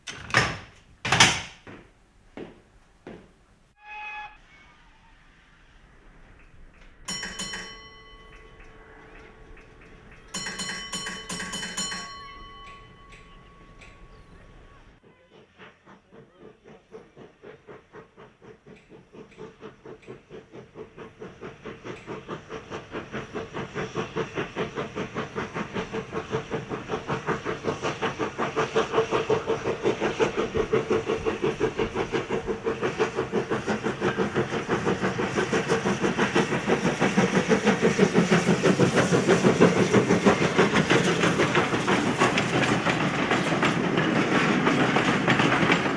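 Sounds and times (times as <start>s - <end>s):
steam locomotive chuffing: 3.3s - 45.9s.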